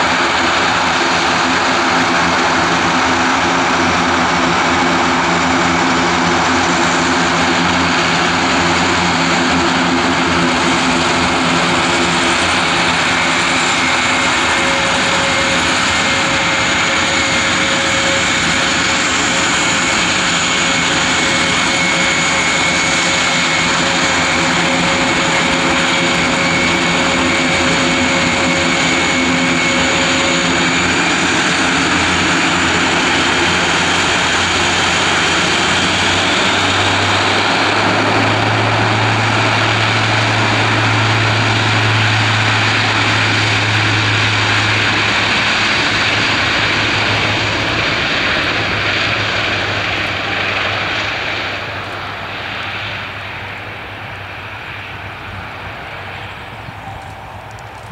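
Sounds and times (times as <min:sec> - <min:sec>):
deep propeller hum: 0:00.0 - 0:57.9
high engine whine: 0:00.0 - 0:57.9
turboprop engines running: 0:00.0 - 0:57.9.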